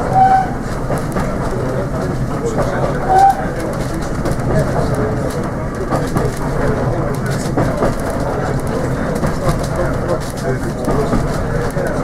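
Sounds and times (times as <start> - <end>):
rail clicks: 0.0 - 12.0
wheels rumbling on rail: 0.0 - 12.0.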